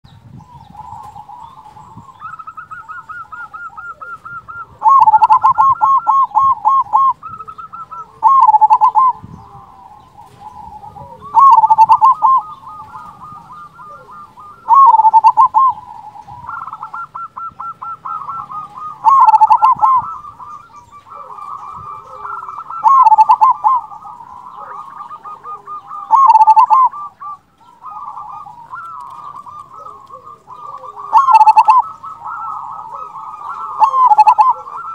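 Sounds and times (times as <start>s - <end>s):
quiet dove cooing: 0.1s - 34.9s
dove rolling coo: 0.2s - 34.9s.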